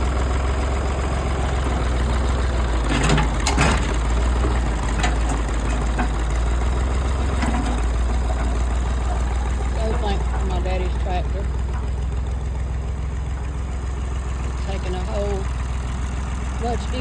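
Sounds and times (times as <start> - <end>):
tractor engine drone: 0.0 - 17.0.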